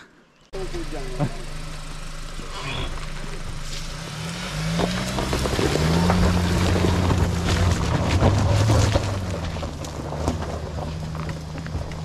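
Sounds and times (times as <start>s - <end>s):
engine pulling hard: 0.6s - 12.0s
stones crunching under tyres: 0.6s - 12.0s.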